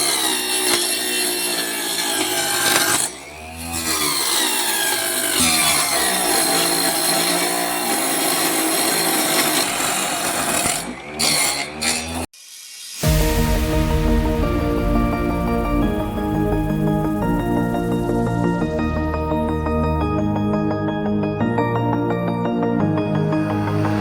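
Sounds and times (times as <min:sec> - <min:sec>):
table saw cutting wood: 0:00.0 - 0:13.2, 0:14.6 - 0:24.0.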